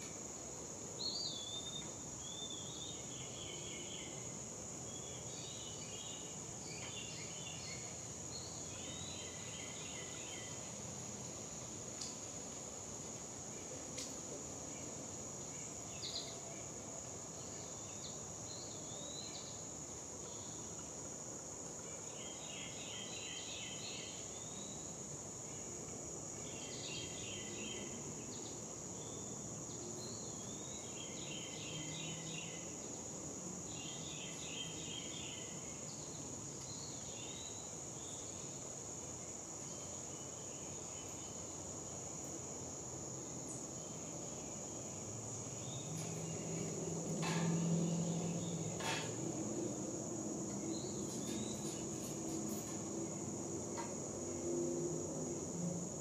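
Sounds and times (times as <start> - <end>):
high-pitched insect chorus: 0.0 - 56.0
songbird singing: 1.0 - 10.8, 13.6 - 21.1, 21.8 - 55.1.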